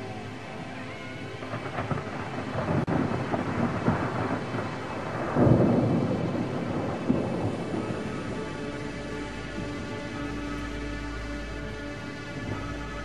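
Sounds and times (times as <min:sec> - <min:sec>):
rain hissing: 0:00.0 - 0:13.0
thunder rumbling: 0:00.0 - 0:13.0.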